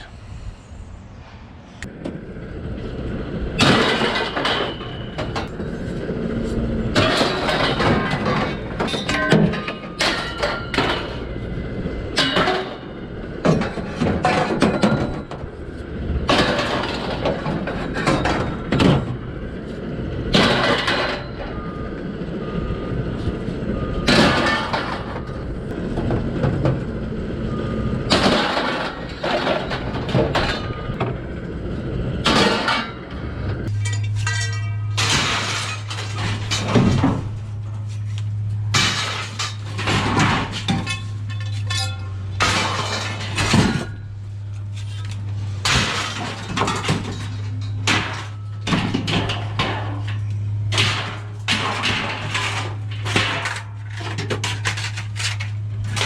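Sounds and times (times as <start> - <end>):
low machine hum: 0.0 - 56.0
scrap steel clanking onto pile: 3.5 - 22.6, 23.2 - 26.9, 27.5 - 56.0.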